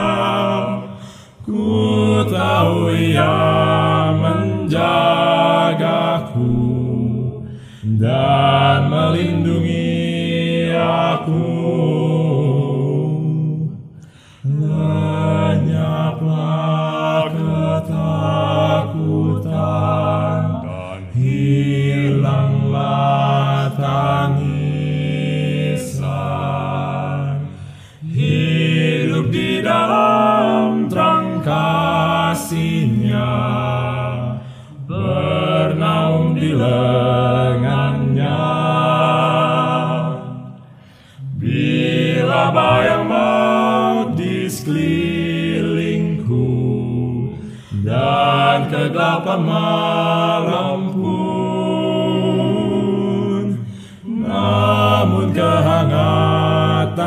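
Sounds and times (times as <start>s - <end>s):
male vocal quartet singing a hymn: 0.0s - 57.0s.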